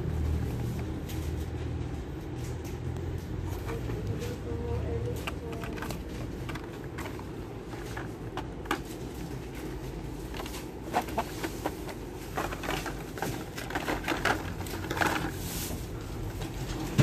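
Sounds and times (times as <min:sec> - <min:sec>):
plastic packs clicking and rattling: 0:00.0 - 0:17.0.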